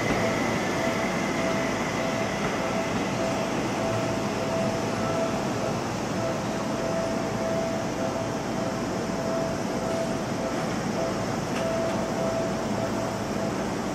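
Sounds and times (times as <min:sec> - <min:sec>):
electric train rumbling: 0:00.0 - 0:13.9.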